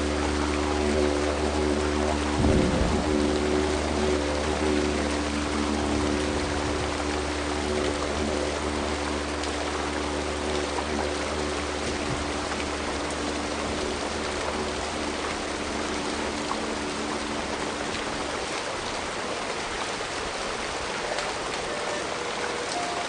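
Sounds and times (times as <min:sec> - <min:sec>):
faint low tones: 0:00.0 - 0:19.0
stream of water running: 0:00.0 - 0:23.0.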